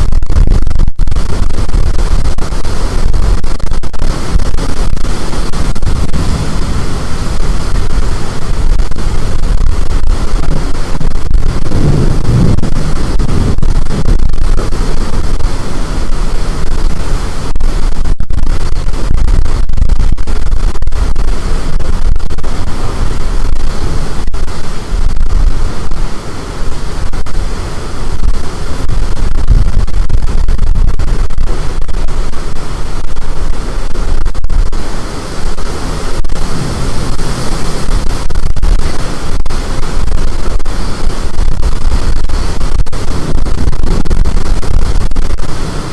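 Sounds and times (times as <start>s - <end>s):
storm wind on microphone: 0.0s - 45.9s.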